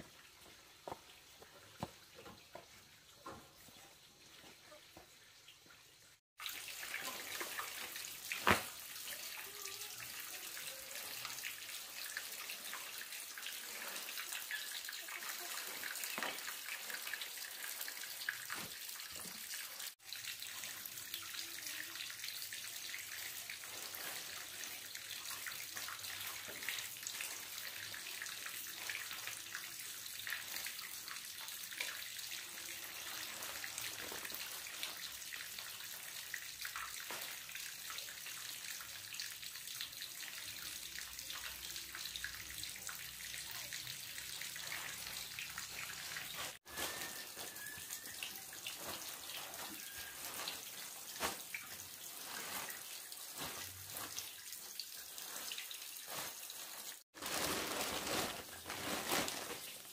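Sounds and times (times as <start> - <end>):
water pouring steadily: 0.0 - 59.9.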